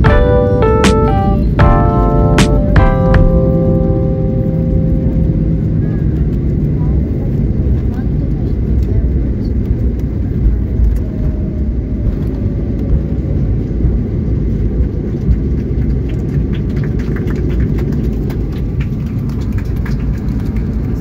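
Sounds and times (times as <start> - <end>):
vehicle rumble: 1.4 - 21.0.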